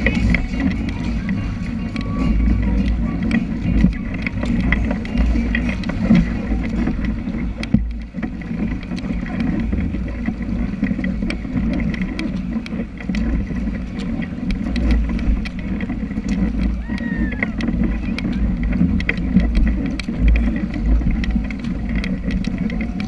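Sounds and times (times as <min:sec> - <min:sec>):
water splashing against kayak: 0:00.0 - 0:23.0
wind rumble on microphone: 0:00.0 - 0:23.0.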